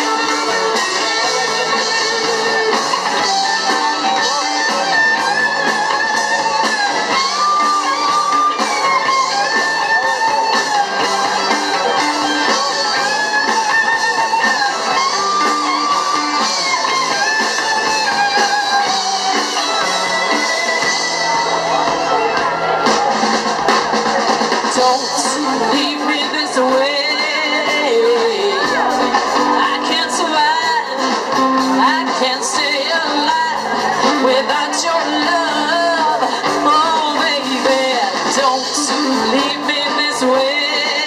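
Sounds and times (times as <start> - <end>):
live band playing instrumental: 0.0 - 41.0.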